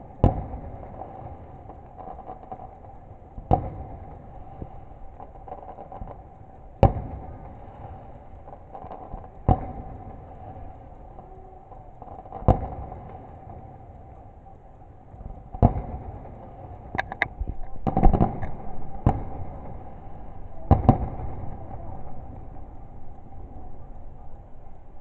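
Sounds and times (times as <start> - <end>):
faint crackling: 0.0 - 25.0
steady hum: 0.0 - 25.0
fireworks banging: 0.1 - 14.2, 15.1 - 25.0.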